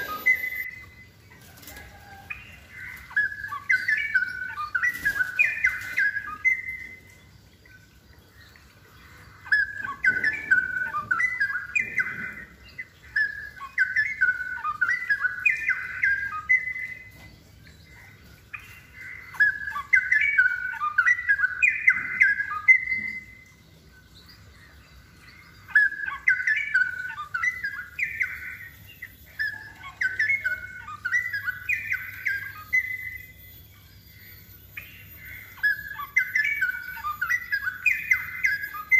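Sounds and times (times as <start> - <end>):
bulbul warbling song: 0.0 - 38.9.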